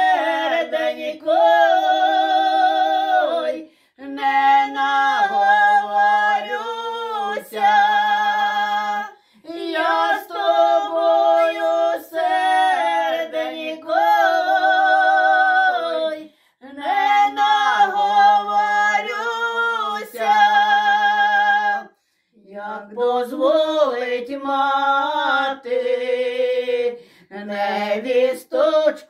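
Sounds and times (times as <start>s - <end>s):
women singing a cappella: 0.0s - 29.0s.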